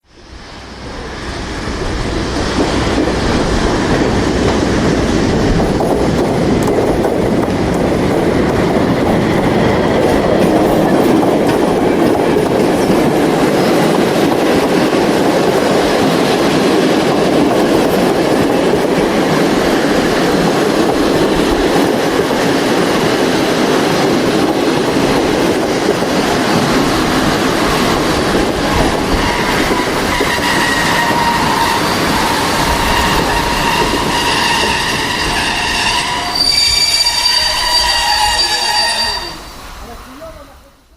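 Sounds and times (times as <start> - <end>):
train wheels rumbling and rattling: 0.0 - 40.4.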